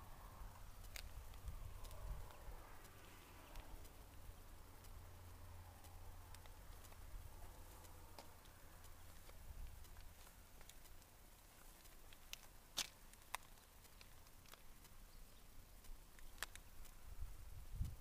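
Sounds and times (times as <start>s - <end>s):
faint clicks: 0.0s - 18.0s.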